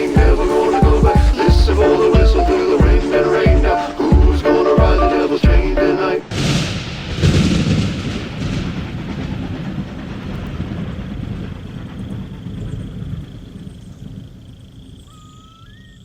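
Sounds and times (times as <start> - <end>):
deep rolling rumble: 0.0 - 15.1.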